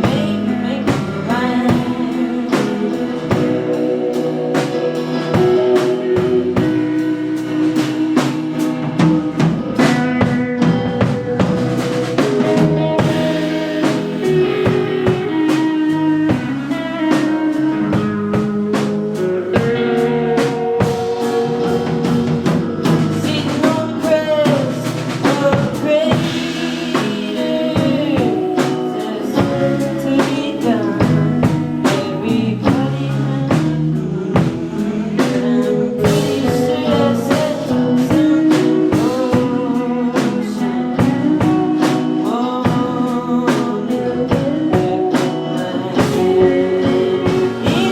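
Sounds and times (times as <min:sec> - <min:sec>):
amplified guitar and bass: 0:00.0 - 0:47.9
drum kit beat: 0:00.0 - 0:47.9
person singing: 0:00.0 - 0:47.9.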